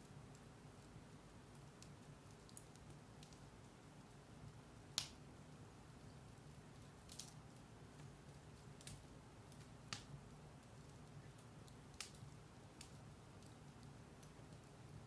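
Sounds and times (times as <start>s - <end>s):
fire crackling and popping: 0.0s - 15.0s
fire rustling: 0.0s - 15.0s.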